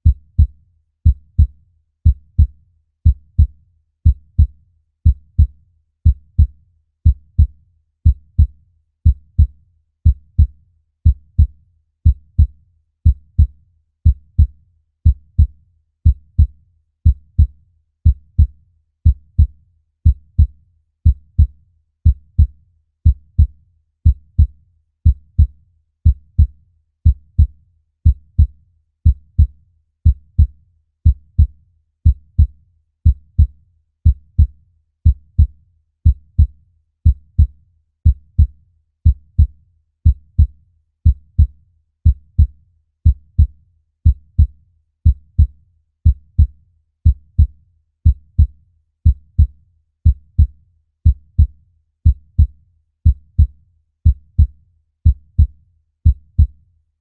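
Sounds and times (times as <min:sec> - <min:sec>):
human heartbeat: 0:00.0 - 0:56.6.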